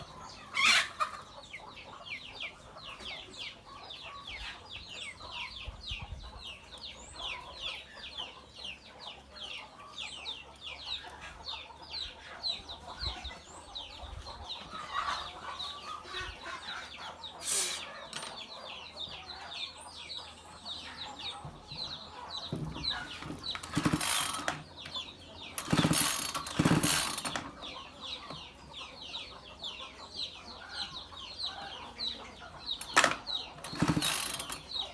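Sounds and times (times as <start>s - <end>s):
birds chirping rapidly: 0.0s - 34.9s.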